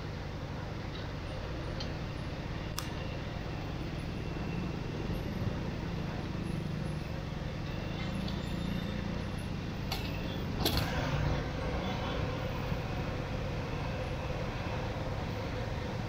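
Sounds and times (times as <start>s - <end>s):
street traffic: 0.0s - 16.0s
vehicle engine running nearby: 0.0s - 16.0s.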